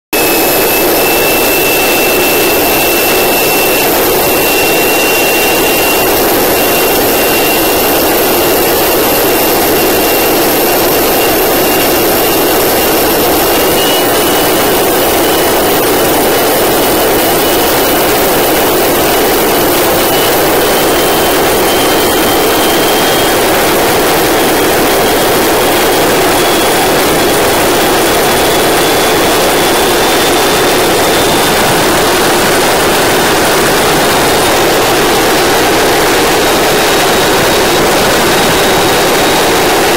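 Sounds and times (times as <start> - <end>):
turbine whine: 0.1 - 39.9.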